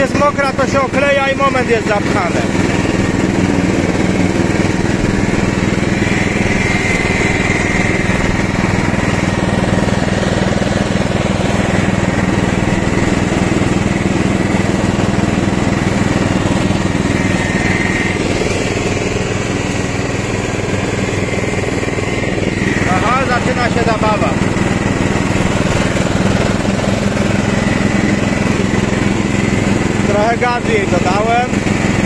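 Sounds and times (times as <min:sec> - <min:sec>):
high whine: 0:00.0 - 0:31.6
lawn tractor engine running: 0:00.0 - 0:32.0
mower deck cutting grass: 0:00.0 - 0:32.0.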